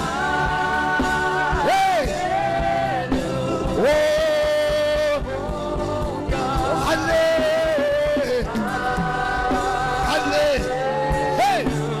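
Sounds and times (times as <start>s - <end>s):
band accompaniment: 0.0s - 12.0s
voices singing gospel: 0.0s - 12.0s.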